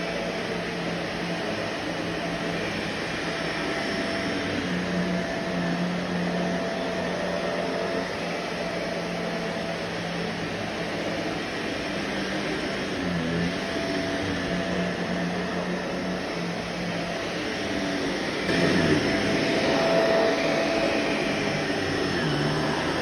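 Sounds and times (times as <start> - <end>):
vacuum cleaner motor running: 0.0 - 23.0.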